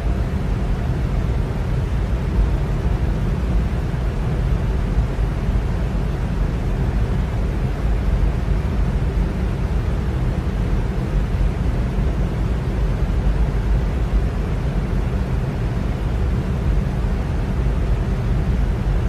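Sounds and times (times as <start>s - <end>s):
electric fan rushing air: 0.0s - 19.0s
faint hum: 0.0s - 19.0s.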